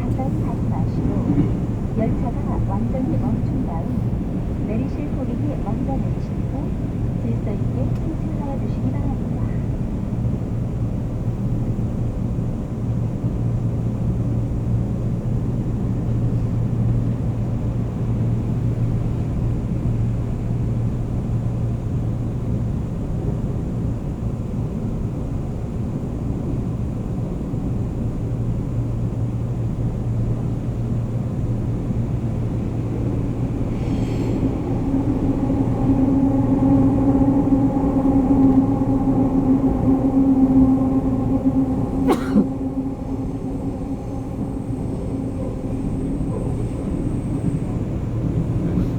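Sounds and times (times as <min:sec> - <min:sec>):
steady humming tone: 0:00.0 - 0:48.9
subway train rumble: 0:00.0 - 0:48.9.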